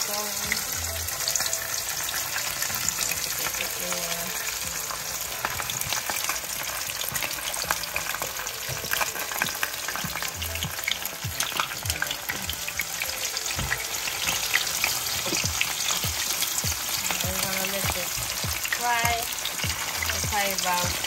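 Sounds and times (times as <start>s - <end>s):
fish frying in oil: 0.0s - 21.0s.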